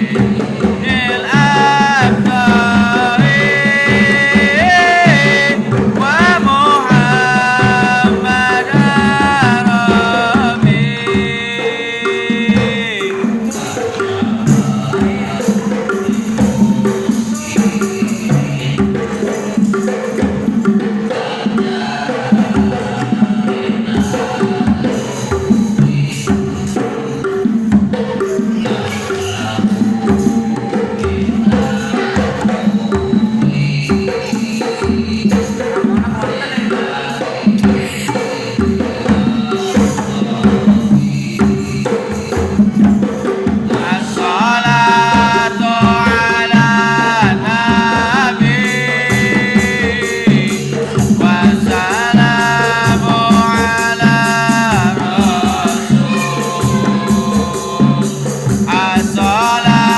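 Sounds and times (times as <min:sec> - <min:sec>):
hand drum percussion: 0:00.0 - 0:59.9
person singing devotional song: 0:00.0 - 0:59.9.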